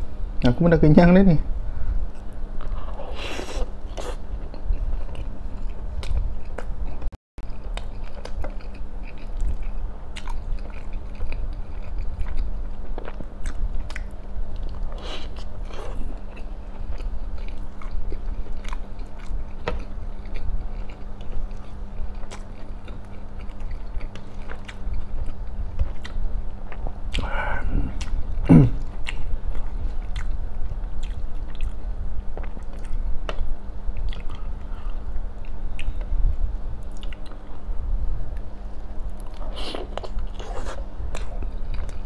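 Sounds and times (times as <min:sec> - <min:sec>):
steady low hum: 0:00.0 - 0:42.0
man chewing food: 0:02.0 - 0:37.6, 0:38.3 - 0:42.0.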